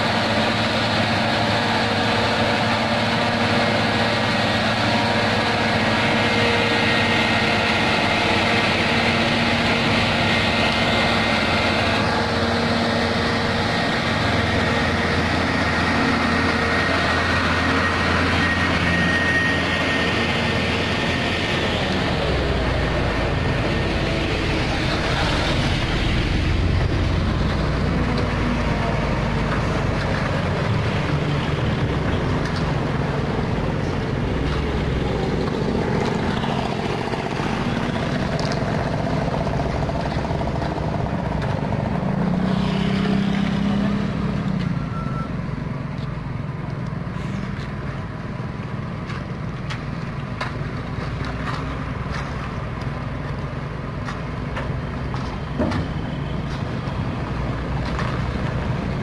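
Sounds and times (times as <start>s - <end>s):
truck diesel engines rumbling: 0.0s - 59.0s.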